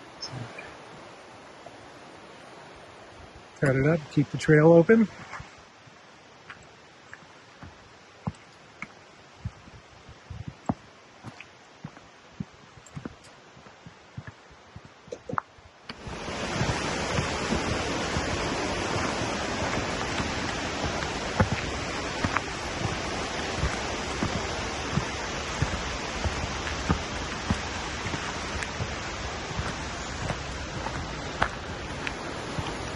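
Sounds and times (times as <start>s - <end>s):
rushing creek water: 0.0s - 32.9s.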